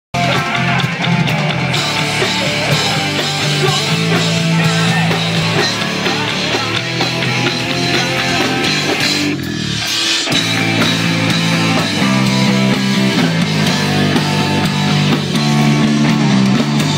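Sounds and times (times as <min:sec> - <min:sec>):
rock band playing loudly: 0:00.1 - 0:16.9.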